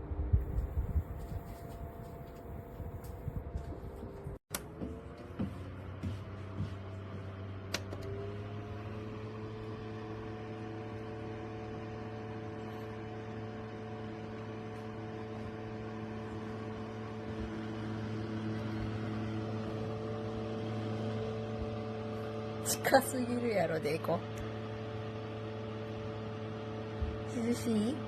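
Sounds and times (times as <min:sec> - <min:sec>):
desk fan motor hum: 0:00.0 - 0:28.0.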